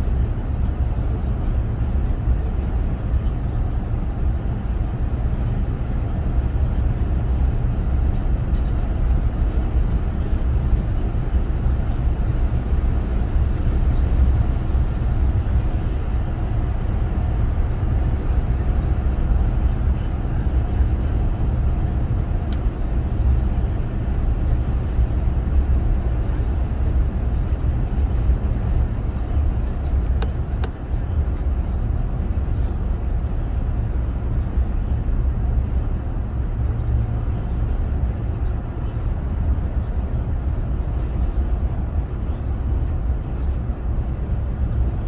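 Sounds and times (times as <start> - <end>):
vehicle road and engine rumble: 0.0 - 45.0.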